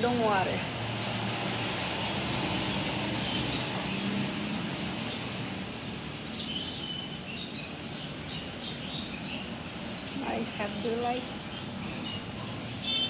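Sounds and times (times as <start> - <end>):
birds chirping: 0.0 - 13.0
outdoor background noise: 0.0 - 13.0.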